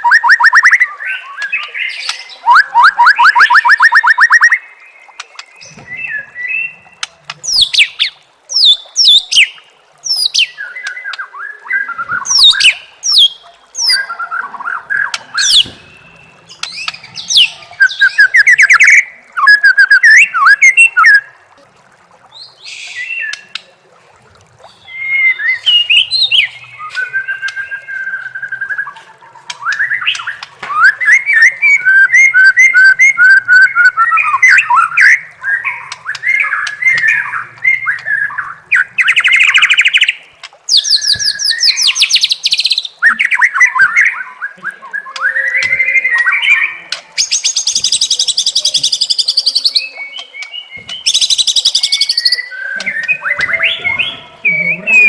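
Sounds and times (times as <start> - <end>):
songbird singing varied song: 0.0 - 21.2, 24.7 - 55.0.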